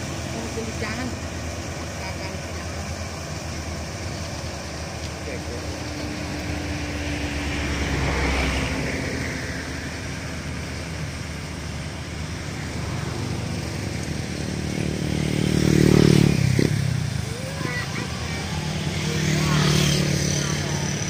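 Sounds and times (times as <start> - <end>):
passing vehicle: 0.0 - 21.0.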